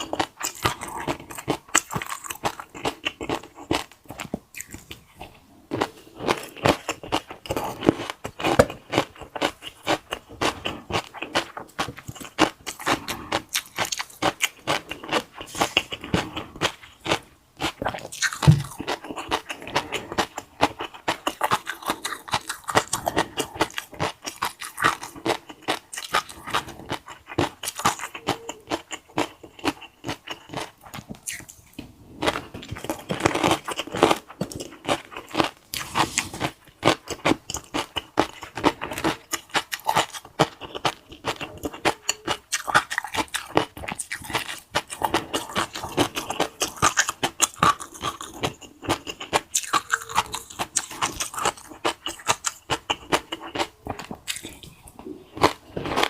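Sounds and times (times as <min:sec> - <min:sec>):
chewing crunchy food: 0:00.0 - 0:56.0.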